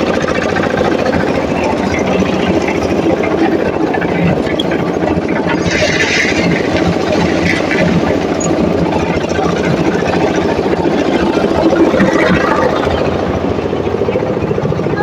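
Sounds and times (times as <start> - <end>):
heavy machinery engine running: 0.0 - 15.0.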